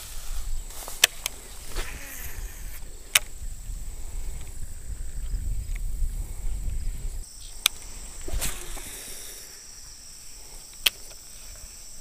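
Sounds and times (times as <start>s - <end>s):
wind rumbling on microphone: 0.0s - 9.9s
insects buzzing: 0.0s - 12.0s.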